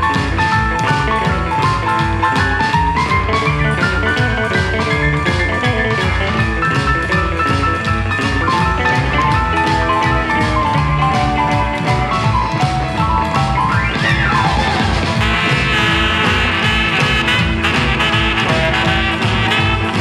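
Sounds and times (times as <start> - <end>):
instrumental rockabilly band music: 0.0 - 20.0.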